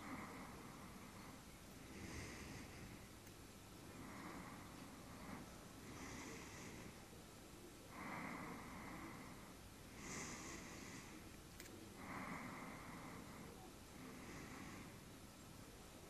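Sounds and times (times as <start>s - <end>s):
man breathing heavily asleep: 0.0s - 15.5s.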